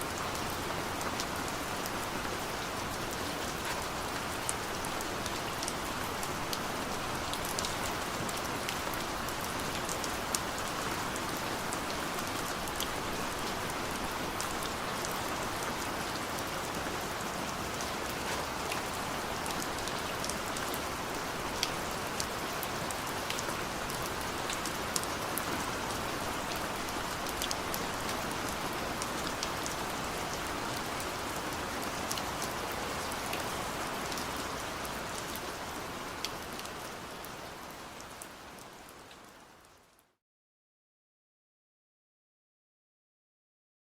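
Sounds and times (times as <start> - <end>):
rain hiss: 0.0 - 39.6
raindrops ticking on surface: 0.1 - 40.0.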